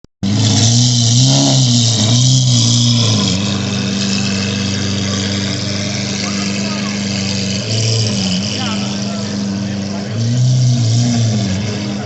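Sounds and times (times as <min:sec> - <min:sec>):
car engine revving and idling: 0:00.2 - 0:12.0.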